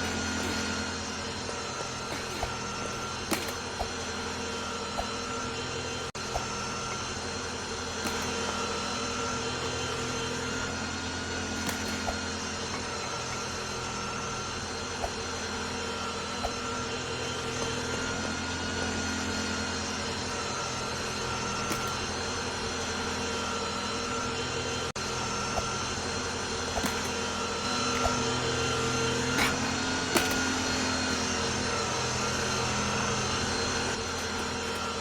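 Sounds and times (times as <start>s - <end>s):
steady mechanical drone: 0.0s - 35.0s.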